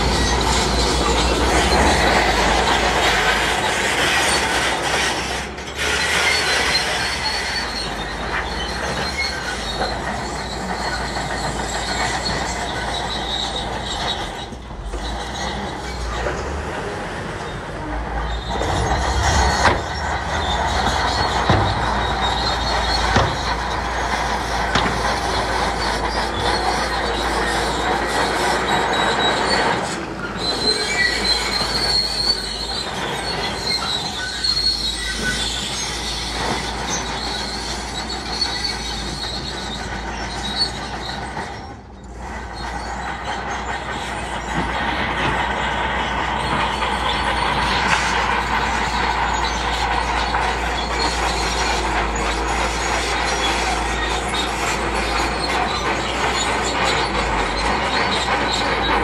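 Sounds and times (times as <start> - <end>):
bulldozer diesel engine: 0.0 - 59.0
steel tracks clanking and squealing: 0.0 - 59.0.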